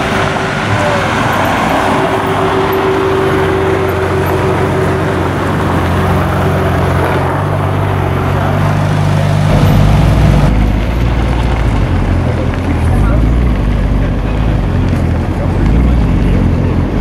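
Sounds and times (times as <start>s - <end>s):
deep engine idling: 0.0s - 17.0s
sports car engine pulling away: 0.0s - 17.0s.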